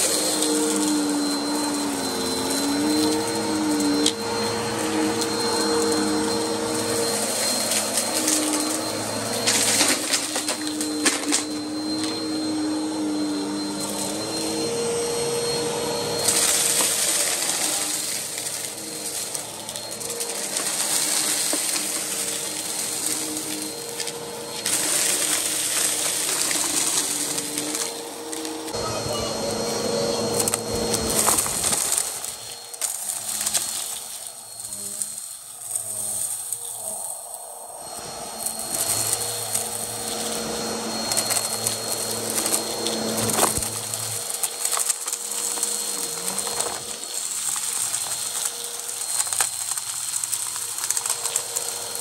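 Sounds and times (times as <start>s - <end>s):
vacuum cleaner running: 0.0s - 52.0s
vacuum hissing: 0.0s - 52.0s.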